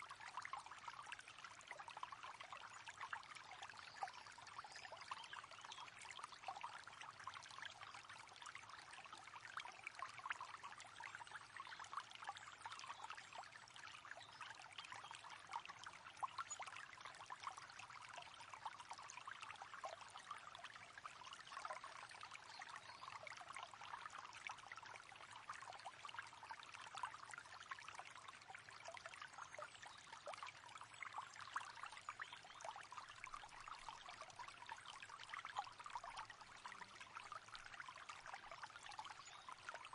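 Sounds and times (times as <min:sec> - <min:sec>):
river water babbling: 0:00.0 - 0:39.9
small water splashes: 0:00.0 - 0:39.9.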